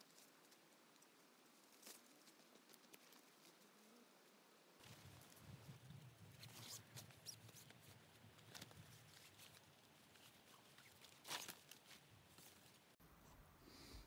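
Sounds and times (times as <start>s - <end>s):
faint rustling: 0.0s - 13.5s.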